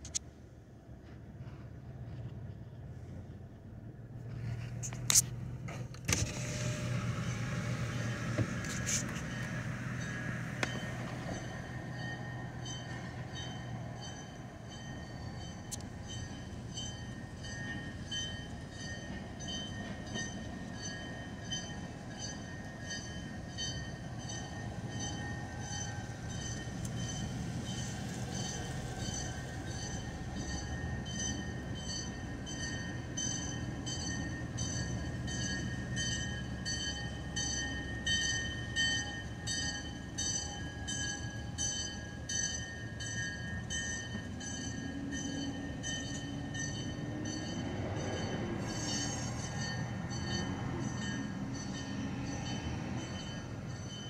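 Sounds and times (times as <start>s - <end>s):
diesel locomotive engine: 0.0s - 54.0s
freight cars rumbling: 0.0s - 54.0s
pulsing high-pitched ringing tones: 9.3s - 54.0s.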